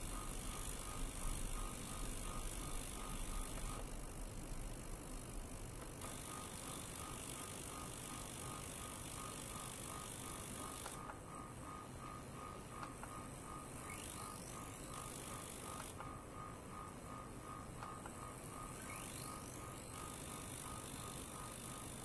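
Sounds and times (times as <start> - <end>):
high whine: 0.0 - 22.0
ultrasonic cleaner pulsing tone: 0.0 - 22.0.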